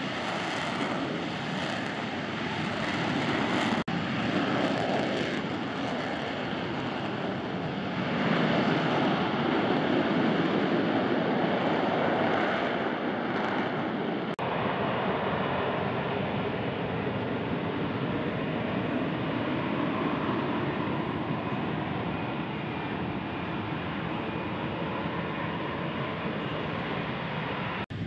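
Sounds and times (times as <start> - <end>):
loud jet engine: 0.0 - 28.0.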